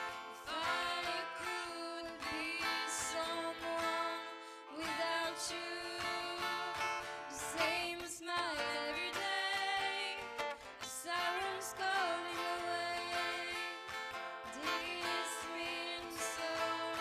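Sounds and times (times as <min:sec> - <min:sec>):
guitar accompaniment: 0:00.0 - 0:17.0
person singing: 0:00.0 - 0:17.0.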